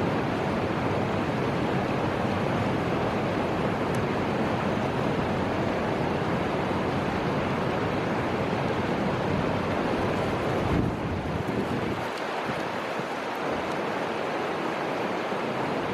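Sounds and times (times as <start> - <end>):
flowing river water: 0.0 - 15.9
wind: 0.0 - 15.9.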